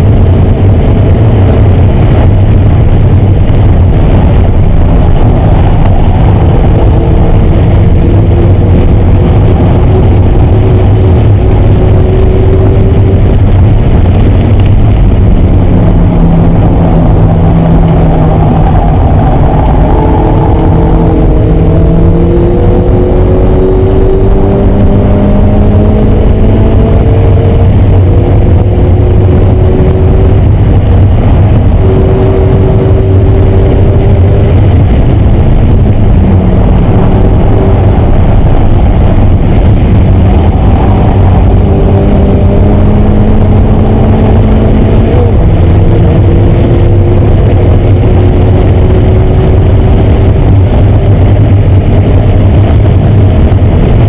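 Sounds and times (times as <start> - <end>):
car engine at high revs: 0.0 - 54.0
wind and road noise: 0.0 - 54.0.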